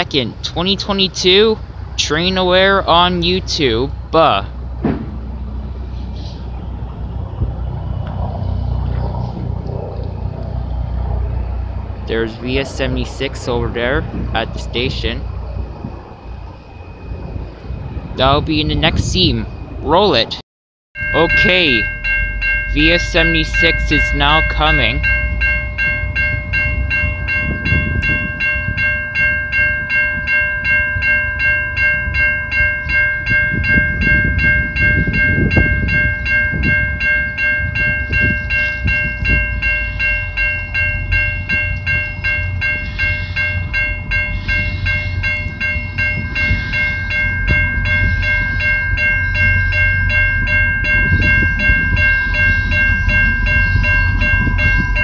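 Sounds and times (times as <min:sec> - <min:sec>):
level crossing warning bell ringing: 0:00.0 - 0:05.9, 0:11.0 - 0:20.4, 0:21.0 - 0:55.0
low rumble: 0:00.3 - 0:20.4, 0:21.0 - 0:55.0.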